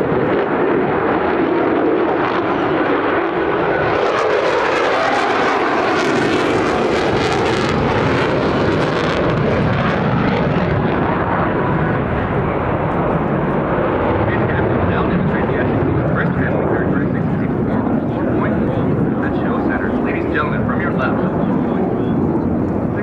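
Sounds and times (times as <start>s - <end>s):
jet engine roaring: 0.0s - 23.0s.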